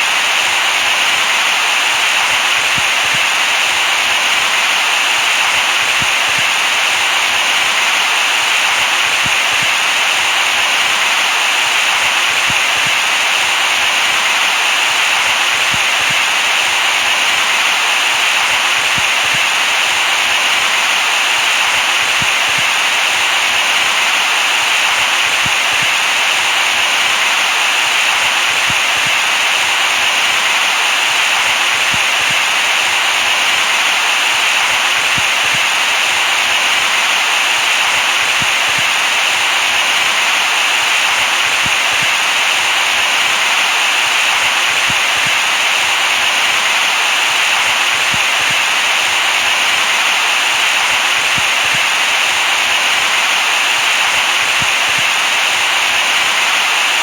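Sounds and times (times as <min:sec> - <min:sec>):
synthetic white noise hiss: 0:00.0 - 0:57.0.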